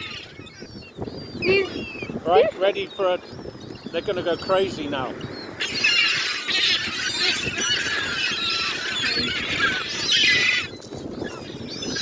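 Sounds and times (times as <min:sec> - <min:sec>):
seagulls squealing and calling: 0:00.0 - 0:12.0.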